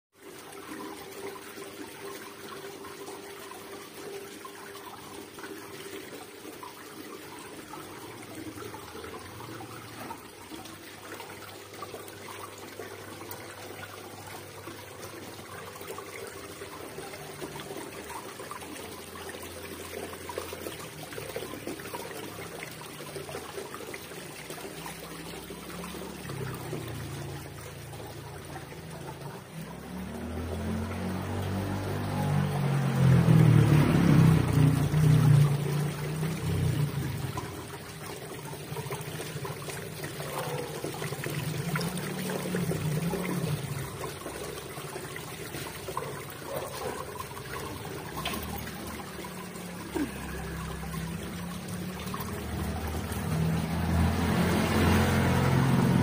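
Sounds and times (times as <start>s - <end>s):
waterfall fountain splashing: 7.4s - 56.0s.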